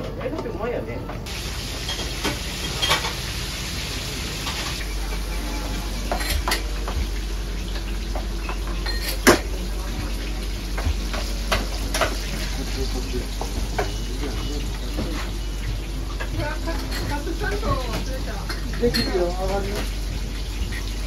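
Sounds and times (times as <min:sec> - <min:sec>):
pots and pans clanking: 0:01.2 - 0:21.0
food frying hiss: 0:01.3 - 0:21.0.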